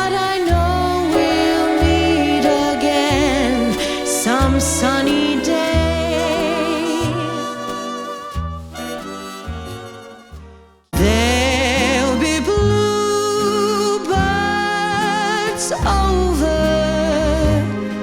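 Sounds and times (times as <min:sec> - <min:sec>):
person singing with vibrato: 0:00.0 - 0:09.2, 0:11.0 - 0:18.0
backing track: 0:00.0 - 0:18.0
song playing: 0:00.0 - 0:18.0.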